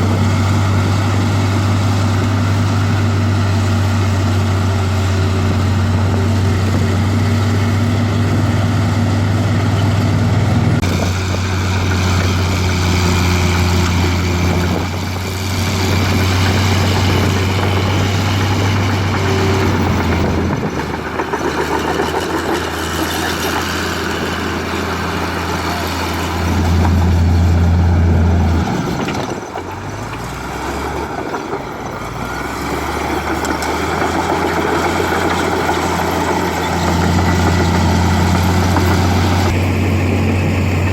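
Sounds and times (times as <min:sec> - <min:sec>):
engine revving: 0:00.0 - 0:40.9
heavy diesel engines running: 0:00.0 - 0:40.9.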